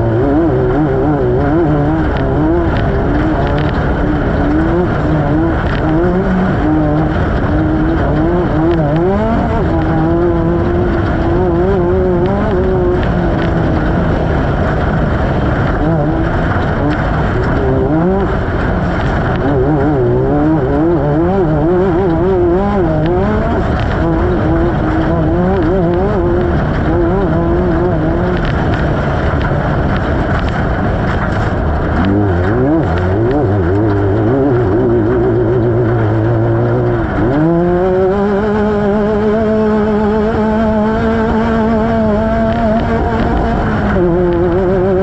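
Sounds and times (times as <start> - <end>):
clatter of knocks and rattles: 0.0 - 45.0
race vehicle engine revving: 0.0 - 45.0.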